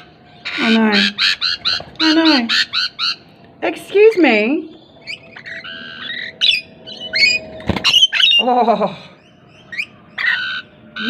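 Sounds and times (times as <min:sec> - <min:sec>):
lorikeets calling: 0:00.0 - 0:11.0.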